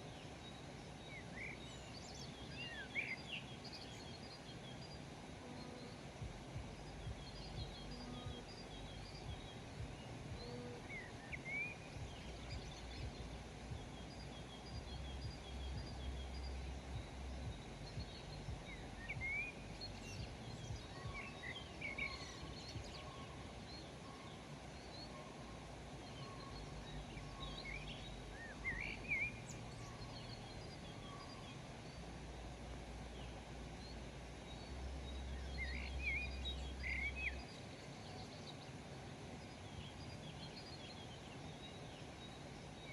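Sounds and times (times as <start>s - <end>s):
birds chirping: 0.0s - 42.9s
low outdoor rumble: 0.0s - 42.9s.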